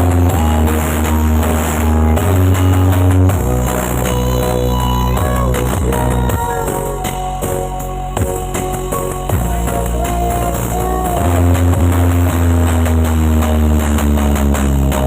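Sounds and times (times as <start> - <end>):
heavy bass notes: 0.0 - 15.0.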